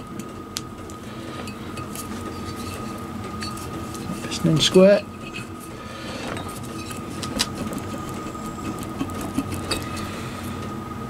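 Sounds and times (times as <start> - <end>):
steady background hum: 0.0 - 11.0
metal scraping: 1.1 - 10.0.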